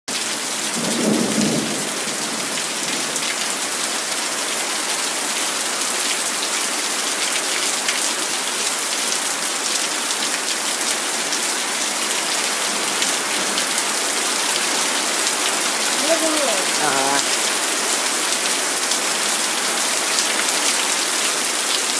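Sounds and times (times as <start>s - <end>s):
heavy rain pouring: 0.1s - 21.9s.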